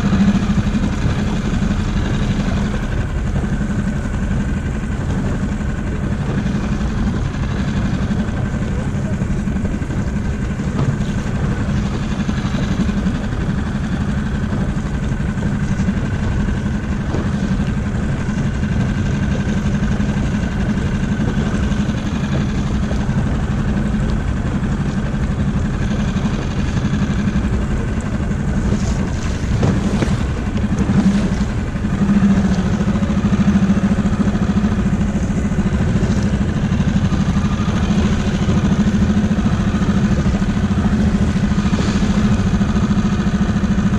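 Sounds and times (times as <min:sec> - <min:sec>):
outboard motor running: 0:00.0 - 0:43.9.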